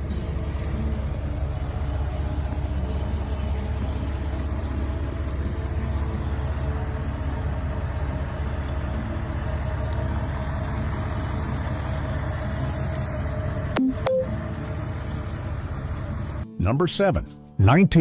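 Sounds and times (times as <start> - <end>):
car engine idling: 0.0 - 16.5.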